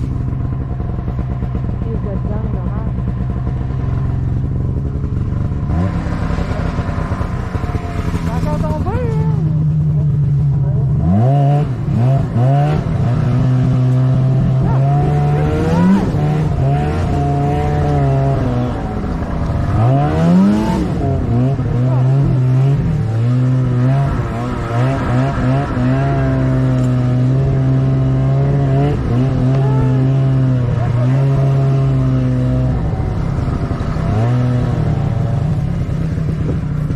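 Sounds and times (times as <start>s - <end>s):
snowmobile engine revving: 0.0s - 36.9s.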